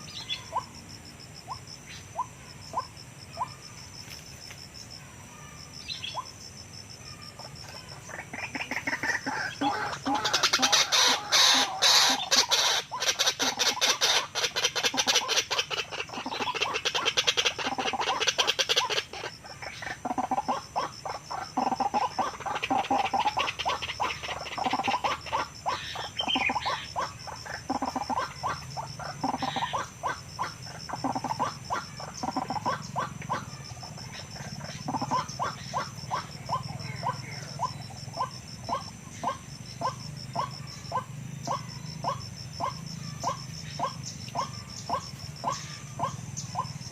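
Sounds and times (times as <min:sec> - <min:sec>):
waterhen calling: 0:08.1 - 0:33.5, 0:34.1 - 0:46.9.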